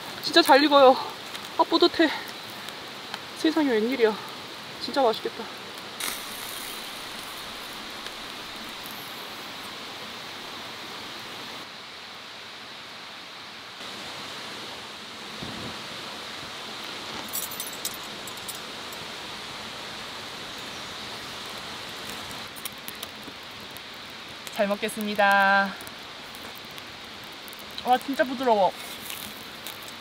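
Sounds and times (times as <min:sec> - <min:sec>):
mountain stream rushing: 0:00.0 - 0:30.0
wood fire crackling: 0:00.0 - 0:30.0.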